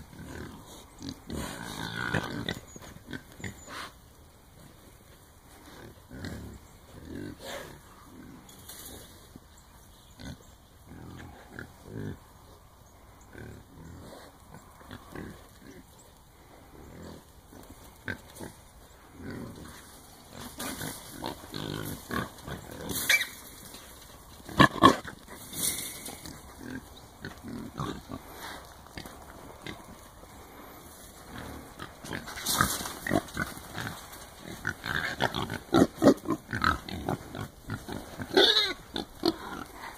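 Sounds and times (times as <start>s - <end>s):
hogs grunting: 0.0s - 4.0s, 10.2s - 12.6s, 13.2s - 39.9s.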